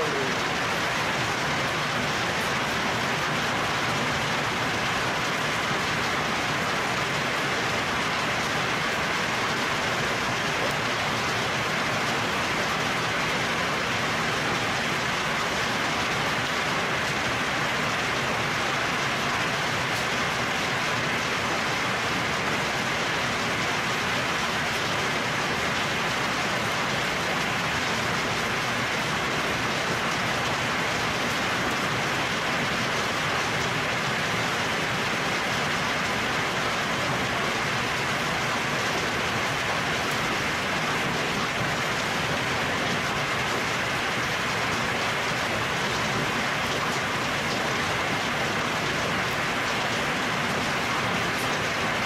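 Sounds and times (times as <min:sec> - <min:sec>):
hail and rain pouring: 0:00.0 - 0:52.0.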